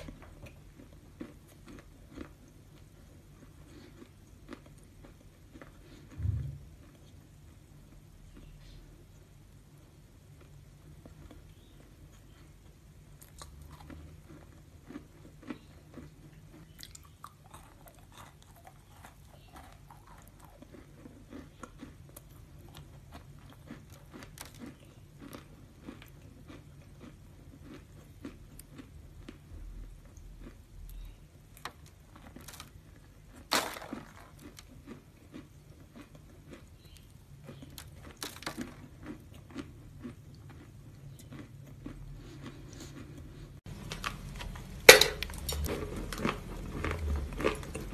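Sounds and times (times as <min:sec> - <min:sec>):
chewing crunchy cookie: 0:00.0 - 0:47.9.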